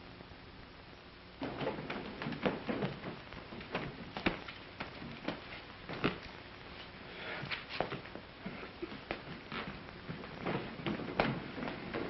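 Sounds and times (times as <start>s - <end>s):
film soundtrack hiss: 0.0s - 12.0s
soft knocks and rustles: 1.4s - 12.0s.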